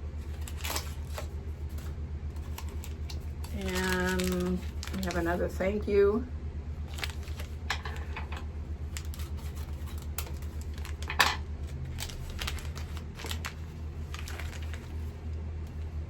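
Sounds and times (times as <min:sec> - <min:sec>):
steady low hum: 0:00.0 - 0:16.0
plastic packaging rustling: 0:00.1 - 0:05.6, 0:06.8 - 0:15.3.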